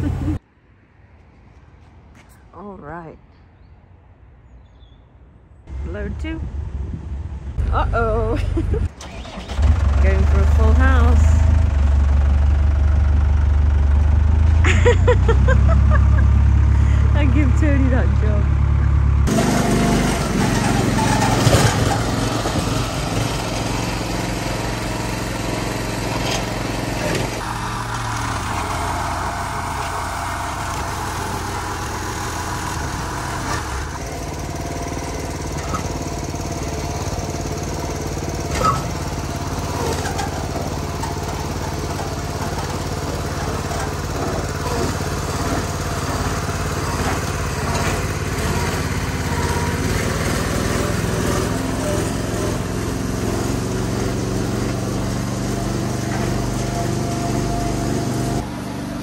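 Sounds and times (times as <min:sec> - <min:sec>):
small engine running: 0:08.8 - 0:59.0.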